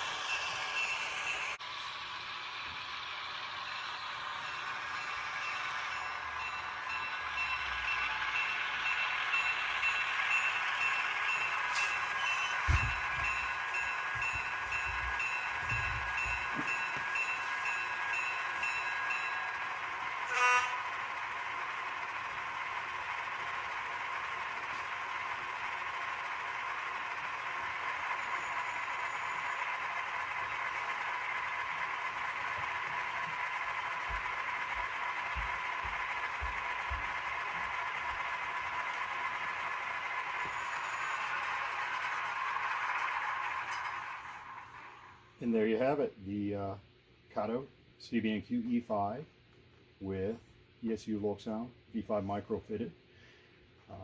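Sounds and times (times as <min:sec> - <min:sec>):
thin diesel engine drone: 0:00.0 - 0:45.6.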